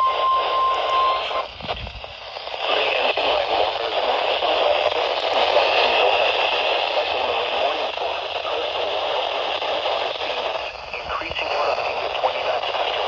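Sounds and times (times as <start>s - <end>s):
radio static hiss with crackle: 0.0s - 13.0s.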